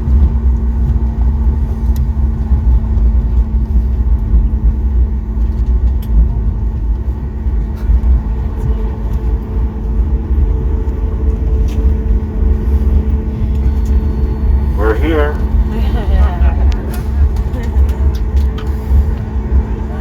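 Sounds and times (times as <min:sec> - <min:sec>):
airplane cabin rumble: 0:00.0 - 0:20.0
higher hum: 0:00.0 - 0:20.0.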